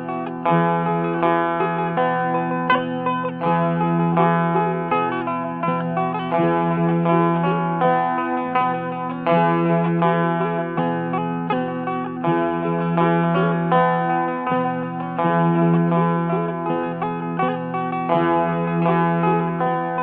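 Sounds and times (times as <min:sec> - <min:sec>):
plucked string instrument: 0:00.0 - 0:20.0.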